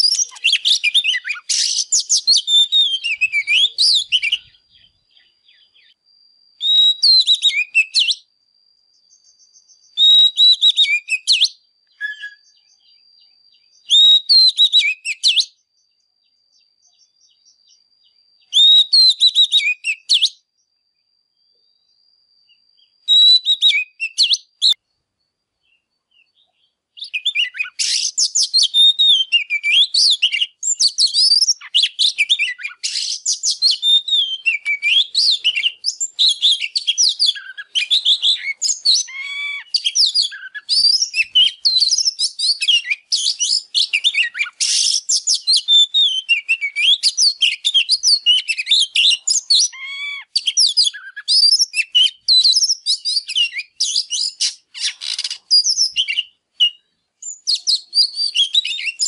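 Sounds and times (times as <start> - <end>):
bird singing whistles and chirps: 0.0 - 59.0.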